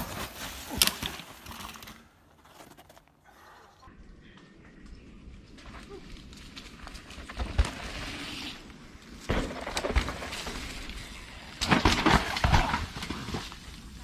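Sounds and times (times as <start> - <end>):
mountain bike clattering over dirt: 0.0 - 3.0, 5.4 - 14.0.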